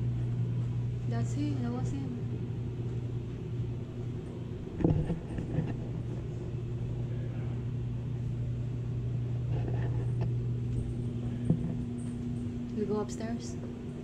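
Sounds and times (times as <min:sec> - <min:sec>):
low indoor hum: 0:00.0 - 0:14.0.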